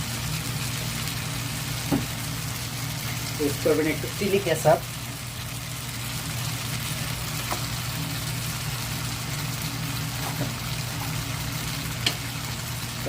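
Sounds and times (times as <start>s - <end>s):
burner flame hum: 0.0s - 13.0s
noodles sizzling in a hot pan: 0.0s - 13.0s.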